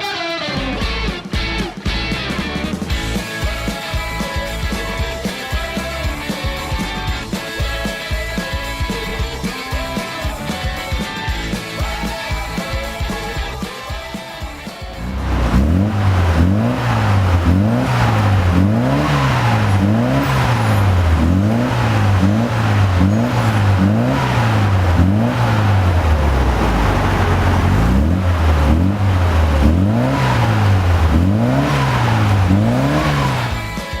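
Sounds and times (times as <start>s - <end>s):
car engine revving: 2.9s - 13.8s, 14.7s - 34.0s.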